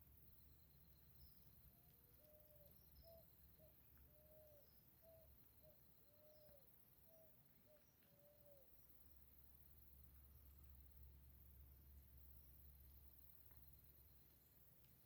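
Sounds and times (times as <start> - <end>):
faint high chirps: 0.0 - 15.0.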